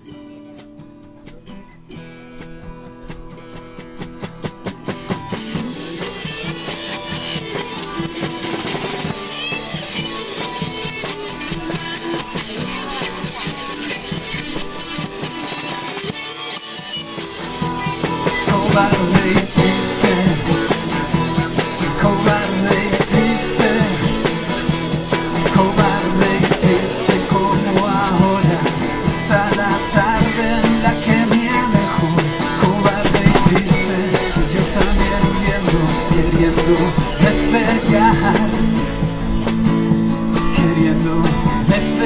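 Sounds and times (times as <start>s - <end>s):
acoustic guitar: 0.0s - 42.0s
drum kit: 0.0s - 42.0s
electric guitar: 0.0s - 42.0s.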